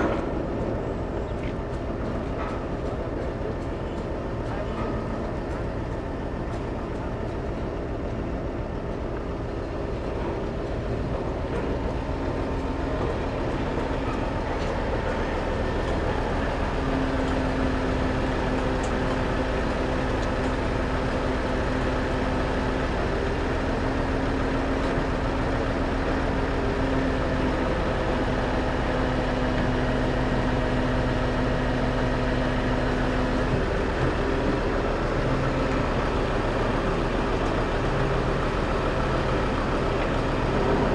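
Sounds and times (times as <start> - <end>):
engine humming steadily: 0.0 - 40.9.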